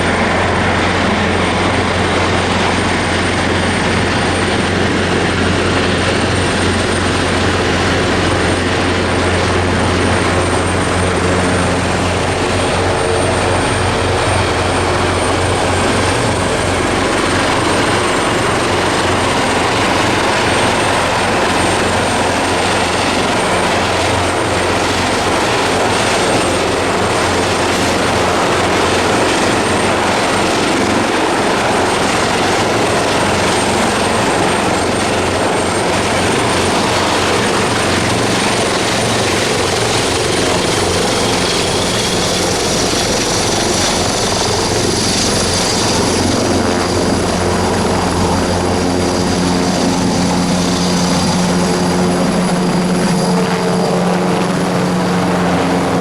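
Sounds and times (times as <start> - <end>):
helicopter running: 0.0 - 56.0
high turbine whine: 0.0 - 56.0.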